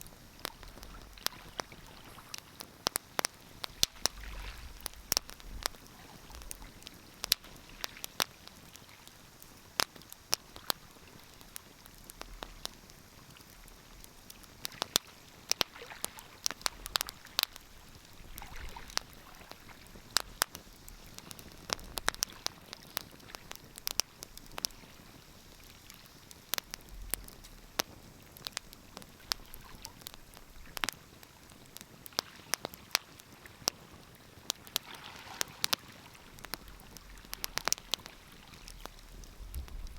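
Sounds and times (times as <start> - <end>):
faint steady hiss: 0.0 - 39.9
wood fire crackling and popping: 0.0 - 39.9.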